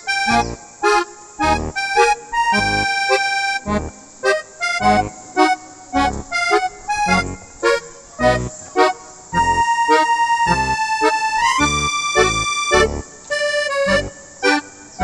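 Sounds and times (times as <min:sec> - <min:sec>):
reedy melody notes: 0:00.0 - 0:15.0.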